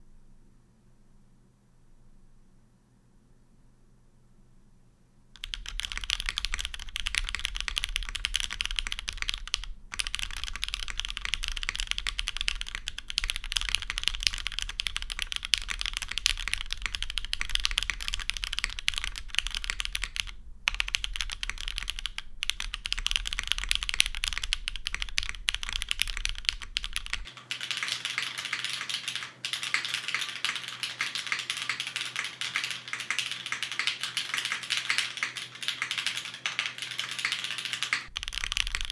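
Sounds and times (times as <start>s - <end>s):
fast mechanical keyboard typing: 5.4s - 38.9s.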